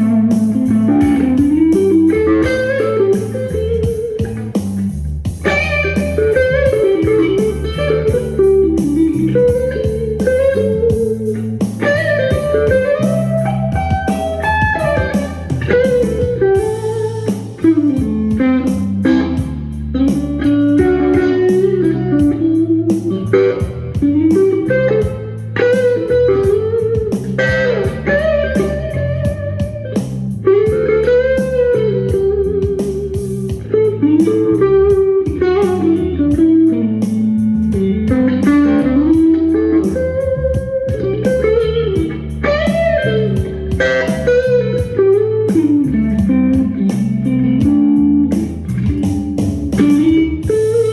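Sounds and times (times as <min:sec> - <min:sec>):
bass line: 0:00.0 - 0:50.9
bluesy electric guitar lead: 0:00.0 - 0:50.9
ticking beat: 0:00.0 - 0:50.9.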